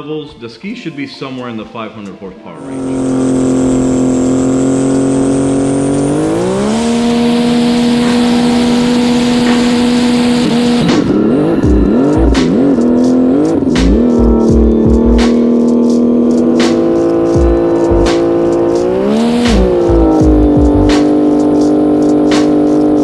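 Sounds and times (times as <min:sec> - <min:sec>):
jet ski engine revving: 0:02.6 - 0:23.0.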